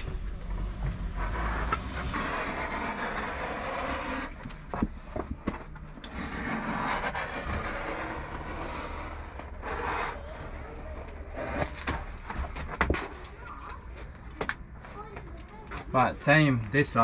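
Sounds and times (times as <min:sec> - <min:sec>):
vinyl flooring scraping and rustling: 0:00.0 - 0:15.9.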